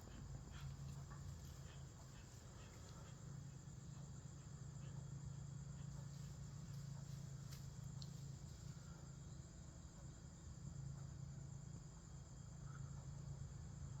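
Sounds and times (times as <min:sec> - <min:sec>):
crickets and insects chirring: 0:00.0 - 0:14.0
low steady hum: 0:00.0 - 0:14.0.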